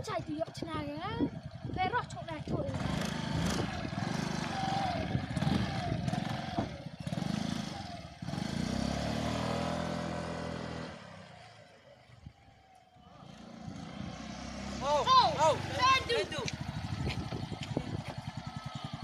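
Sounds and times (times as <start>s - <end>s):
scooter engine revving: 0.1s - 11.8s, 13.1s - 19.0s.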